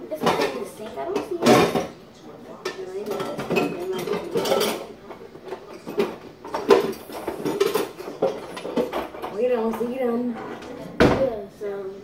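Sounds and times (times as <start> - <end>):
kitchen utensils and dishes clattering: 0.0 - 11.8.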